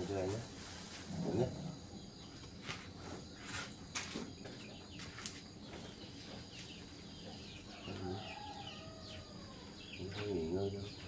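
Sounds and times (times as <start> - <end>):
birds chirping: 1.3 - 11.0.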